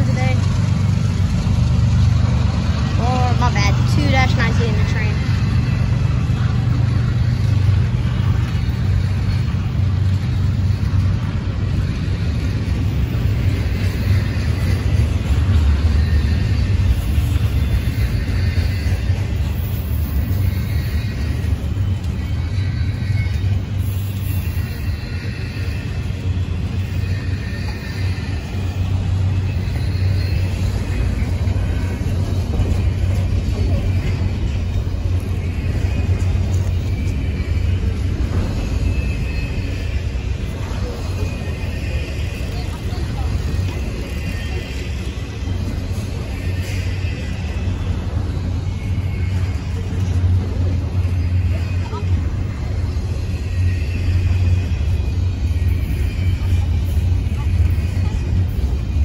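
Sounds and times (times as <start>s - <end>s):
heavy engine rumbling: 0.0s - 59.0s.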